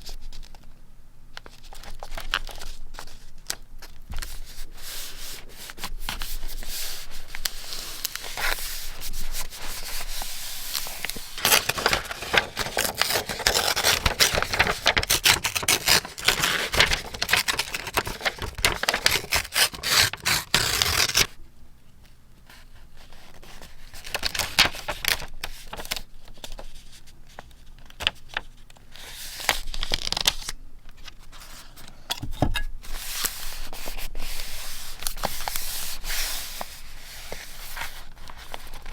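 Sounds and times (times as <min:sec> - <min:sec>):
paper rustling and crackling: 0:01.4 - 0:21.3, 0:22.5 - 0:32.0, 0:32.8 - 0:38.9.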